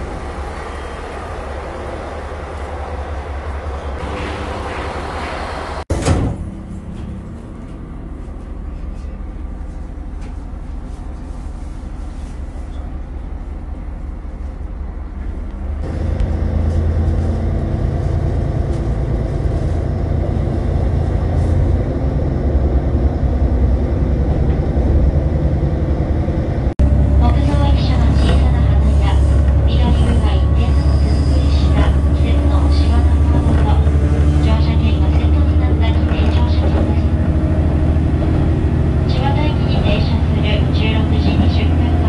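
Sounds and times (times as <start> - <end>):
rail and wheel rumble: 0.0 - 42.0
railcar engine drone: 0.0 - 42.0.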